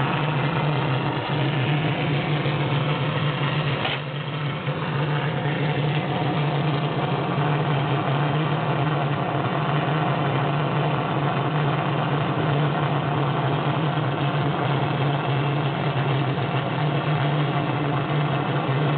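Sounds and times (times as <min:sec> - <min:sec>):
low hum: 0:00.0 - 0:18.9
steam valve venting: 0:00.0 - 0:18.9.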